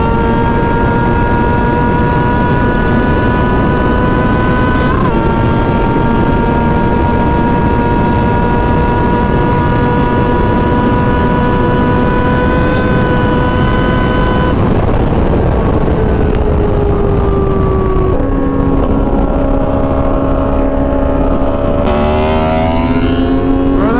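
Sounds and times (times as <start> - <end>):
motorcycle engine revving: 0.0 - 23.9
wind rushing over microphone: 0.0 - 23.9.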